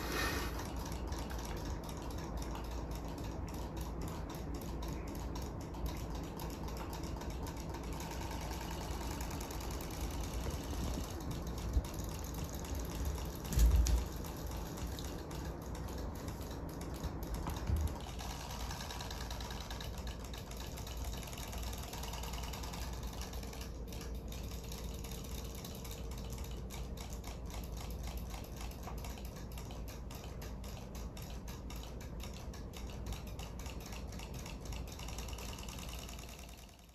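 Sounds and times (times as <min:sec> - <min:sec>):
rapid ticking of flapping tails: 0:00.0 - 0:36.9
toy motor hum: 0:00.0 - 0:36.9.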